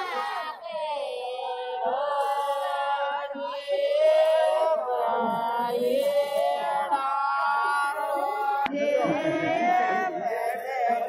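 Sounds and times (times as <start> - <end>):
women singing folk song unaccompanied: 0.0 - 11.0.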